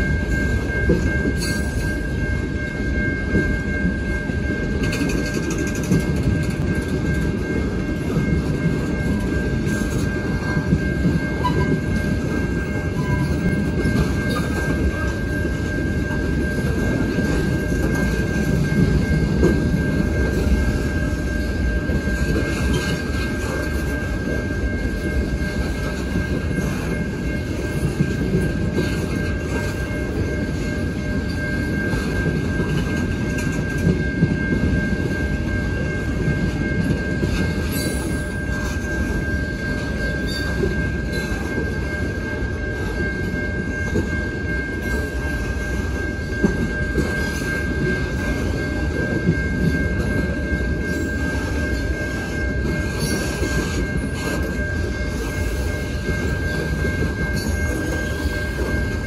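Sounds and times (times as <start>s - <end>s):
clickety-clack over rail joints: 0.0s - 59.0s
freight train wheels rumbling: 0.0s - 59.0s
steady high-pitched tone: 0.0s - 59.0s.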